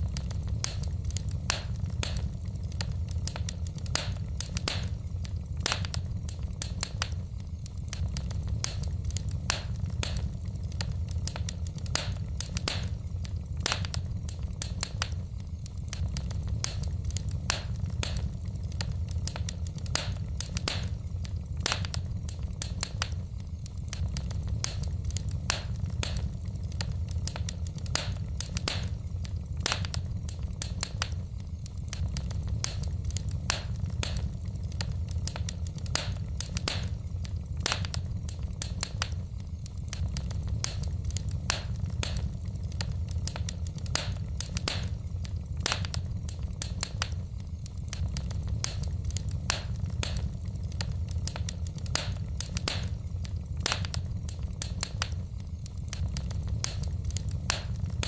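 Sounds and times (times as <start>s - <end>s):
steady low rumble: 0.0s - 58.0s
wood fire crackling: 0.0s - 58.0s.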